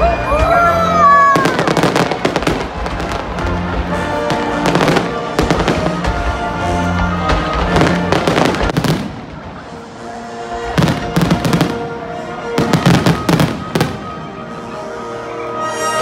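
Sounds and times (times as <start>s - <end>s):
music playing: 0.0s - 16.0s
fireworks bangs and crackles: 0.3s - 14.9s.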